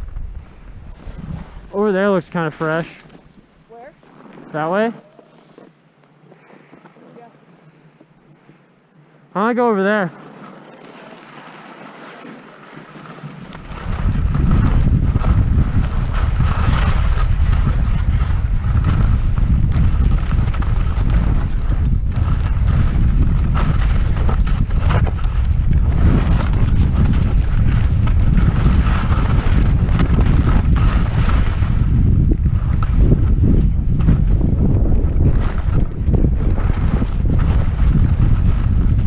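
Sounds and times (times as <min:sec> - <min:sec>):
wind on microphone: 0:00.0 - 0:05.4, 0:13.0 - 0:39.0
skis scraping on snow: 0:00.0 - 0:39.0.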